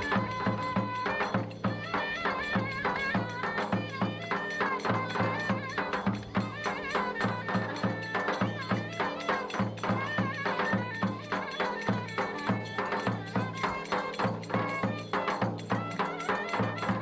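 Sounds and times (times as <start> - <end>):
reed-like melody: 0.0 - 17.0
steady drumbeat: 0.0 - 17.0.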